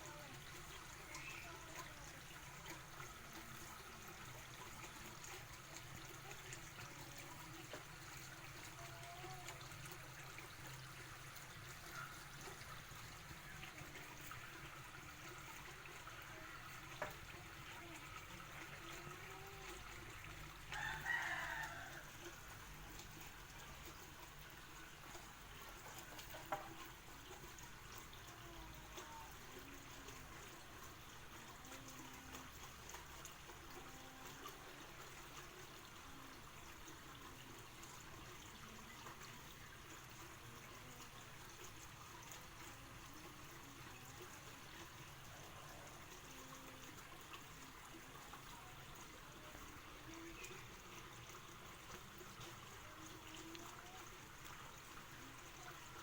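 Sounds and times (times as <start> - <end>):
faint water trickle: 0.0 - 56.0.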